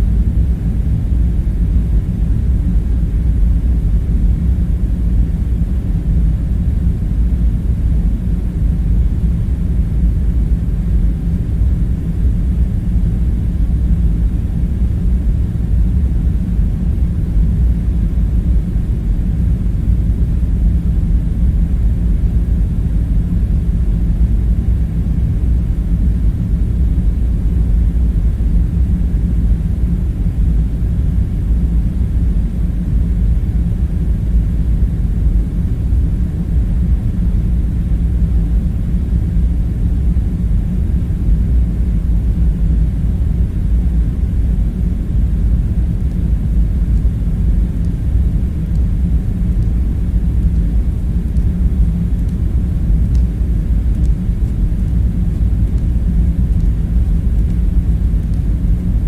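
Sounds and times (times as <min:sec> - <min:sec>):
low rumbling drone: 0:00.0 - 0:59.0.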